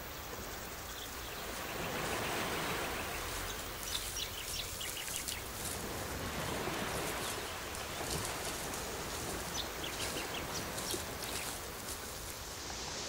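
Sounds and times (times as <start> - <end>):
outdoor background hiss: 0.0 - 13.0
small birds chirping: 0.4 - 12.4.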